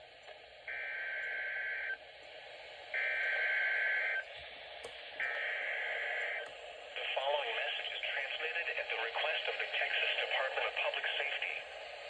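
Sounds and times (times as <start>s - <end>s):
radio hiss: 0.4s - 12.0s.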